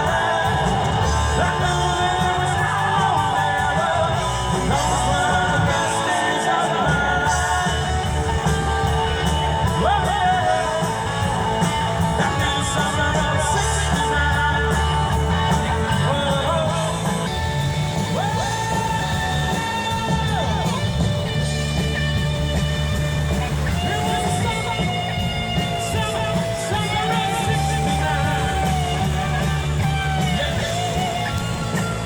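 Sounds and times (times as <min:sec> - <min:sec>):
person singing: 0:00.0 - 0:21.1, 0:23.7 - 0:32.0
live rock band playing: 0:00.0 - 0:32.0.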